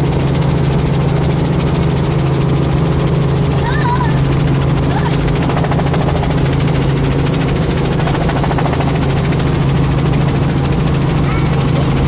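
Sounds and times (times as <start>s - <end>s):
helicopter engine drone: 0.0s - 12.0s
helicopter rotor chop: 0.0s - 12.0s.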